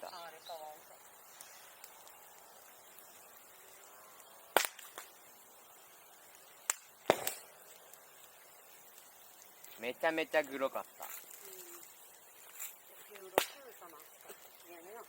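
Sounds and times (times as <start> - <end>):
bonfire wood popping: 0.0 - 15.0.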